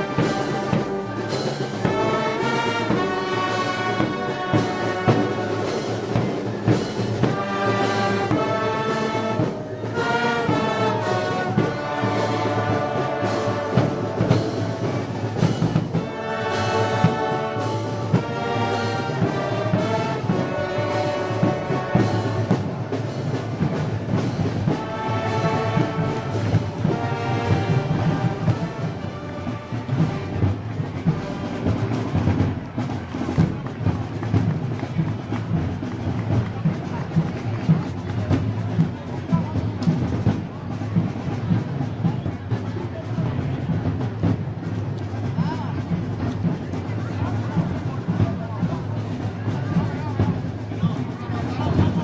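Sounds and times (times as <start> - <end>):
brass band playing a march: 0.0 - 52.0
steady drum beat: 0.0 - 52.0.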